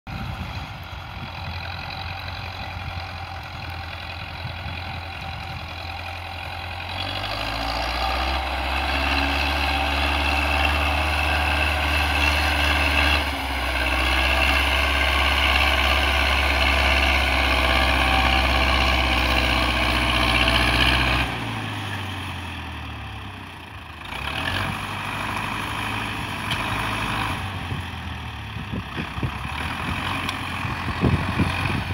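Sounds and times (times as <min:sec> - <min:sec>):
tractor diesel engine under load: 0:00.1 - 0:31.9.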